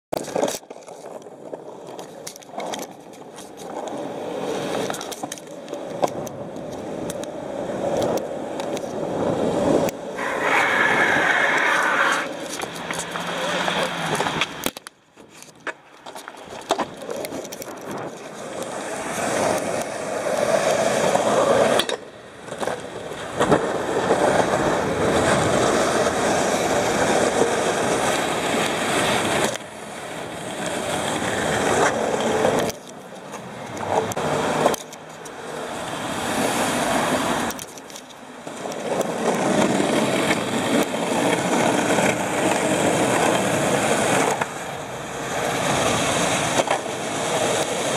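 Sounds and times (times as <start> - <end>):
skateboard wheels rolling on concrete: 0.1 - 47.9.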